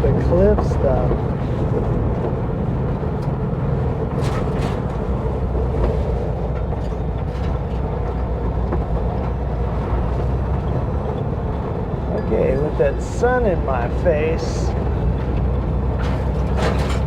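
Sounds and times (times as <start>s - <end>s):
engine running from inside vehicle: 0.0s - 17.0s.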